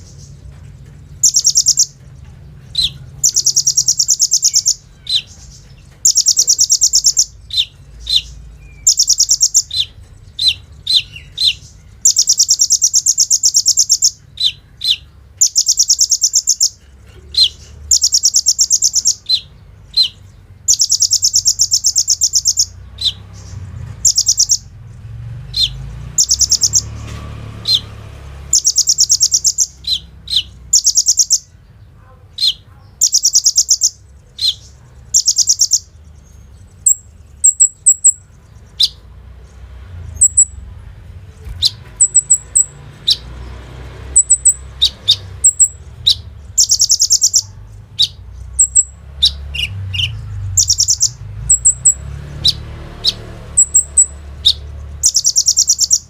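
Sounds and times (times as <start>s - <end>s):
sunbird chips and rattling trills: 0.0s - 56.0s
thin high chirps: 1.2s - 2.0s, 2.7s - 24.7s, 25.6s - 27.0s, 28.5s - 31.5s, 32.5s - 39.0s, 40.1s - 40.6s, 41.6s - 43.3s, 44.1s - 56.0s.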